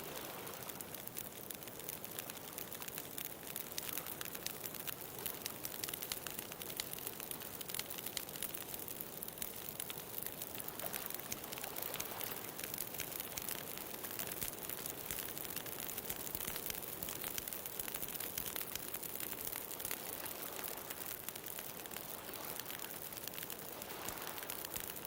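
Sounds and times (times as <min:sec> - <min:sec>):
sharp snaps and pops: 0:00.0 - 0:25.0
wood fire crackling: 0:00.0 - 0:25.0.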